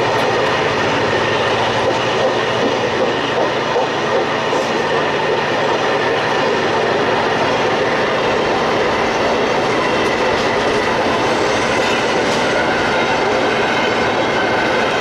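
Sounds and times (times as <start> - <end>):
diesel locomotive engine under load: 0.0 - 15.0
steel wheels on rails: 0.0 - 15.0.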